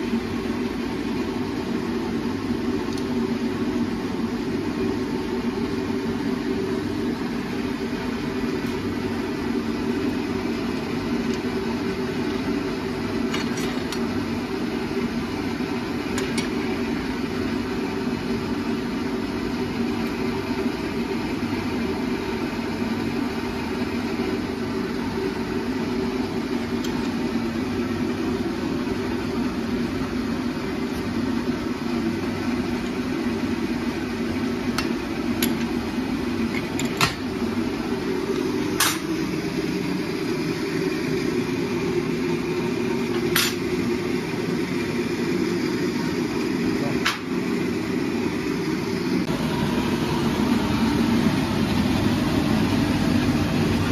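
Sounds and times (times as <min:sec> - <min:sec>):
low workshop roar: 0:00.0 - 0:53.9.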